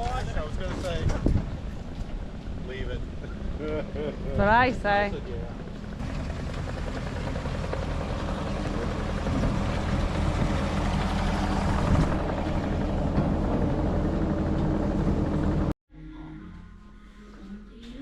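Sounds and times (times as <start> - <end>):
motor engine throbbing: 1.3 - 18.0.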